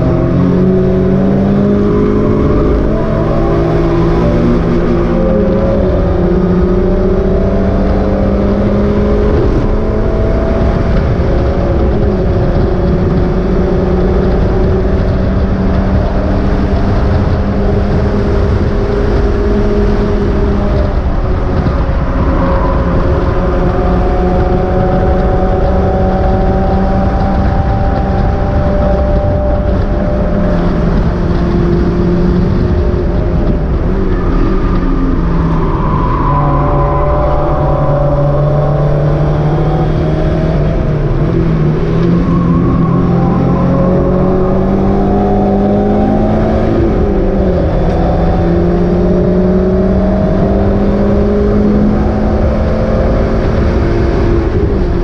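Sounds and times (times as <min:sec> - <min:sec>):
race car engine running hard: 0:00.0 - 0:55.0
wind and road noise: 0:00.0 - 0:55.0.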